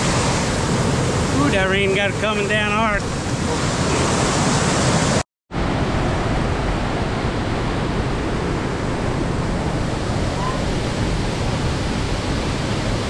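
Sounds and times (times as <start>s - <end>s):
heavy rain and waterfall rushing: 0.0s - 13.0s.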